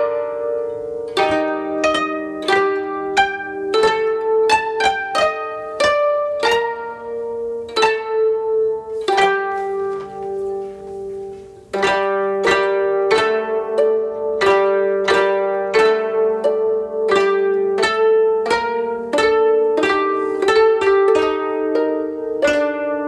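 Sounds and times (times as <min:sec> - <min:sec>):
plucked zither melody: 0:00.0 - 0:23.0.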